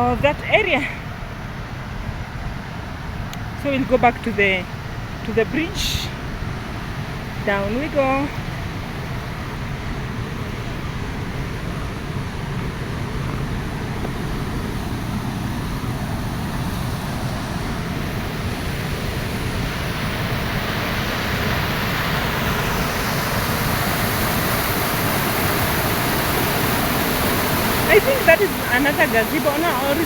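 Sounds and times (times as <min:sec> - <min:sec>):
river and waterfall rushing: 0:02.6 - 0:30.0.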